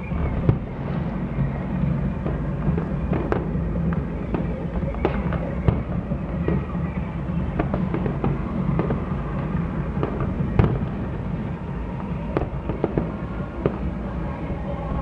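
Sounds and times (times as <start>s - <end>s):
continuous low rumble: 0.0s - 15.0s
fireworks bursts and crackling bangs: 0.0s - 15.0s.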